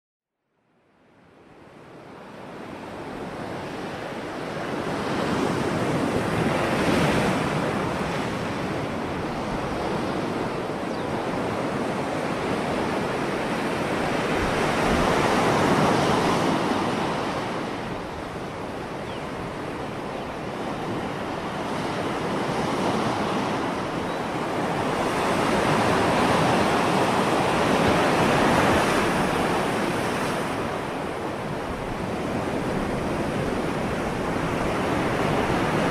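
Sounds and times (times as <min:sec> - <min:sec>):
sea waves breaking over rocks: 0:03.0 - 0:35.9.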